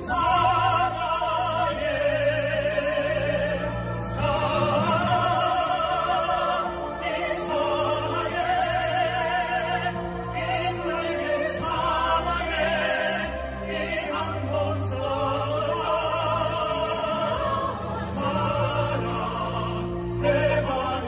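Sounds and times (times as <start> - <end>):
vocal group singing with vibrato: 0.0 - 21.0.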